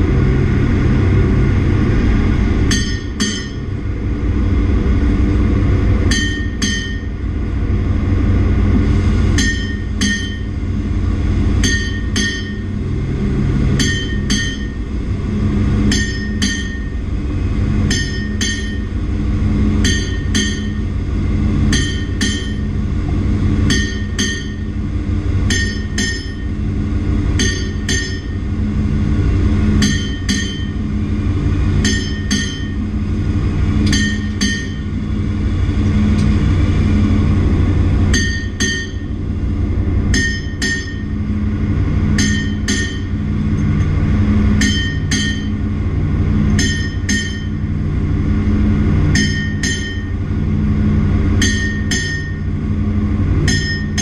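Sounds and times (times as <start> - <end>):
engine-room machinery drone: 0.0 - 54.0.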